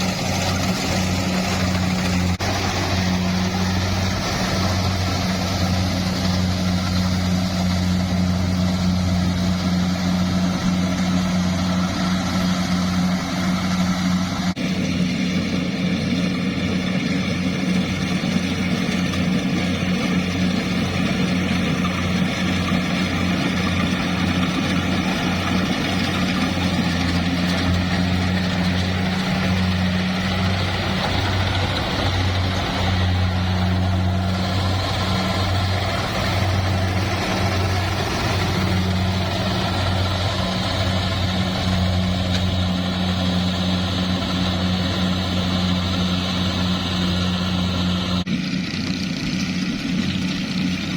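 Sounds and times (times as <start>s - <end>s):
farm machinery engine humming: 0.0s - 50.9s.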